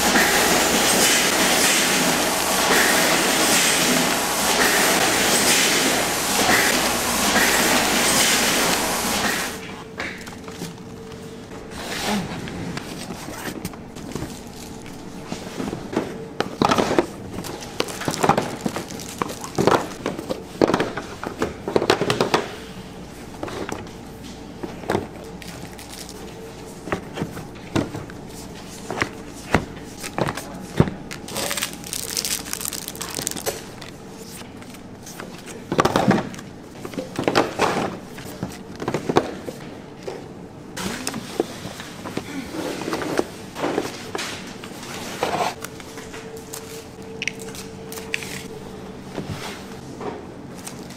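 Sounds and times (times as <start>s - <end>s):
steady machine hum: 0.0s - 50.9s.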